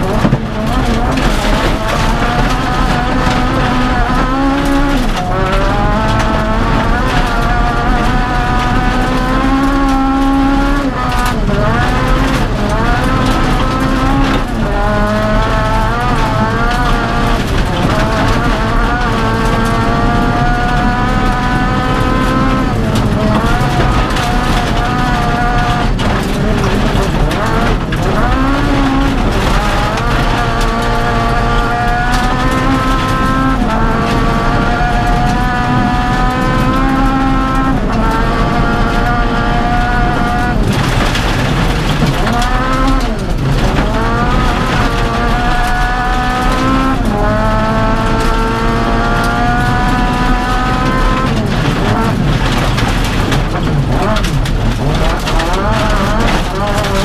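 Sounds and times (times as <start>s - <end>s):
car engine at full throttle: 0.0s - 57.0s
tyres on gravel: 0.0s - 57.0s.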